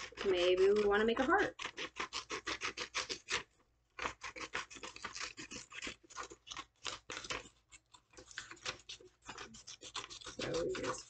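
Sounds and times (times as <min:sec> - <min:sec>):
scissors cutting paper: 0:00.0 - 0:11.0.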